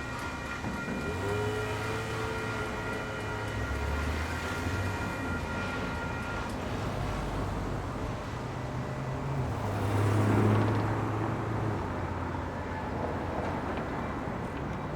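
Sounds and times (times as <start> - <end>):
road traffic: 0.0 - 14.9.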